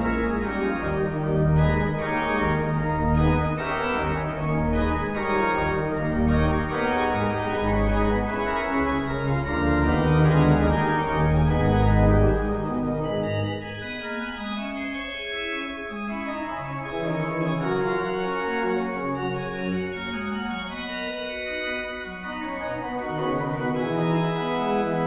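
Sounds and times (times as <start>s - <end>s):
organ playing slow chords: 0.0s - 25.0s.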